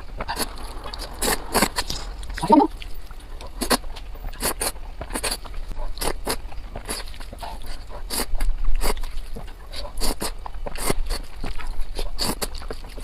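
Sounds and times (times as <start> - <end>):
crisp crunching and chewing: 0.0 - 13.0.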